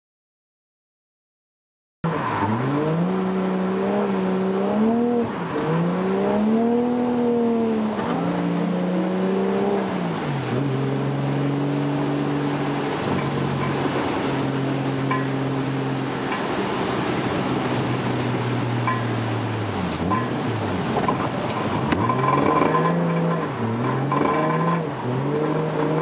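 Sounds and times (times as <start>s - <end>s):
car engine revving: 2.0s - 26.0s.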